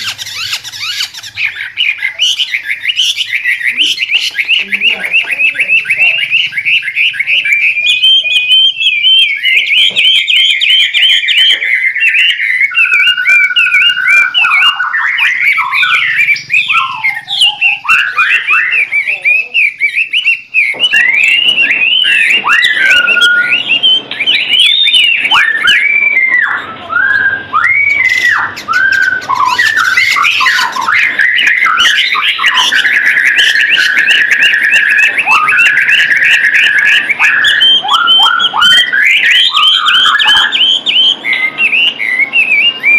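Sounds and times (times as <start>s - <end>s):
songbird whistling and chattering: 0.0s - 42.9s.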